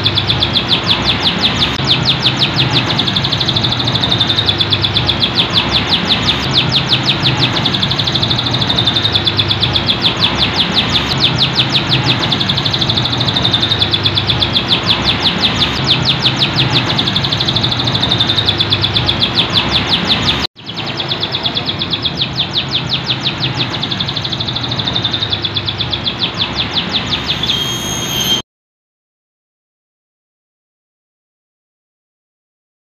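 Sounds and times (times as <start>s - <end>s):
canary singing trills: 0.0s - 28.4s.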